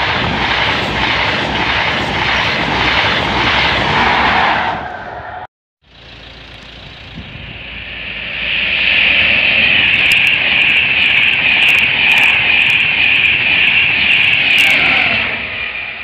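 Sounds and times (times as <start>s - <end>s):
passenger train passing at speed: 0.0s - 16.0s.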